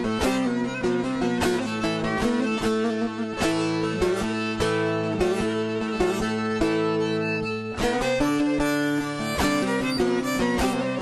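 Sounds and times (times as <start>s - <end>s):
plucked lute strumming: 0.0s - 11.0s
violin melody: 0.0s - 11.0s.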